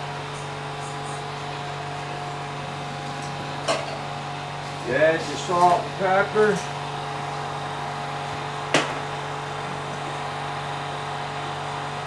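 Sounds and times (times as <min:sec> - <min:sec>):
range hood fan humming: 0:00.0 - 0:12.0.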